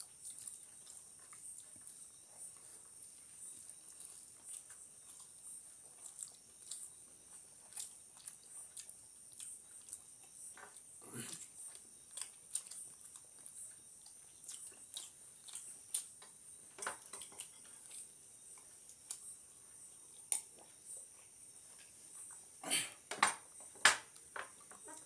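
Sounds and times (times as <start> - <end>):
people chewing food: 0.0 - 25.0.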